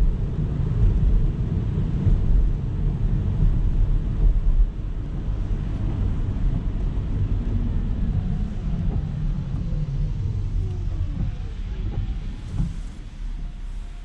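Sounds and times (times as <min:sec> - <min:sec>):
car tyres and engine rumble: 0:00.0 - 0:14.0.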